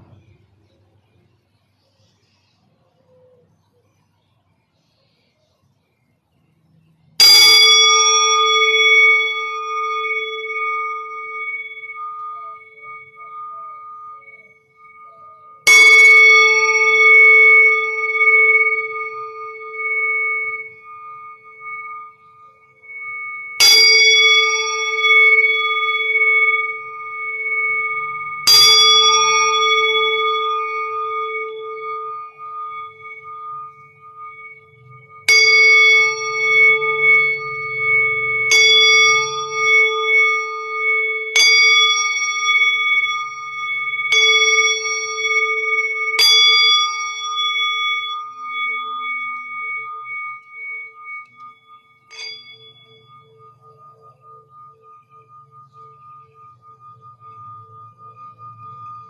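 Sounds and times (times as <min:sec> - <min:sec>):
singing bowl struck with mallet: 0:07.2 - 0:59.0.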